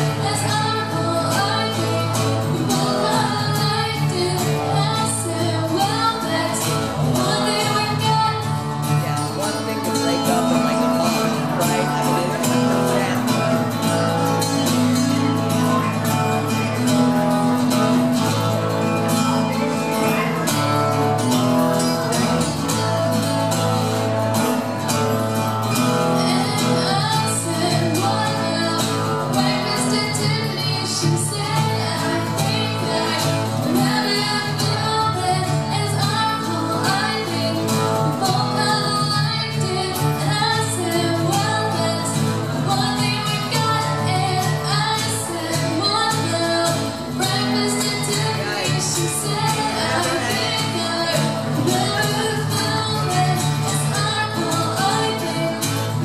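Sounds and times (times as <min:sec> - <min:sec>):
woman singing into microphone: 0:00.0 - 0:23.3, 0:25.7 - 0:56.0
acoustic guitars strumming: 0:00.0 - 0:56.0.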